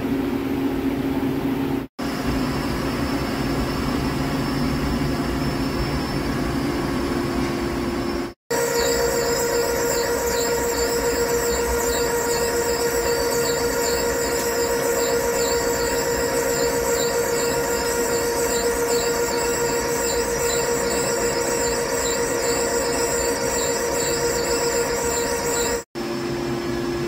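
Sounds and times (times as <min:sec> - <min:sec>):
machine cutting metal whine: 0:02.0 - 0:25.9.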